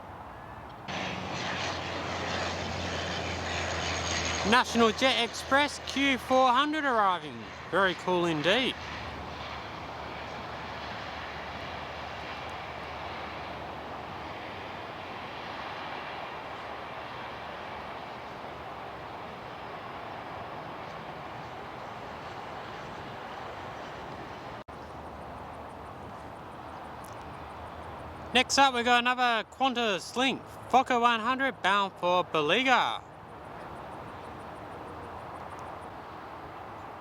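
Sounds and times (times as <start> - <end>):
turboprop engines running: 0.0 - 37.0.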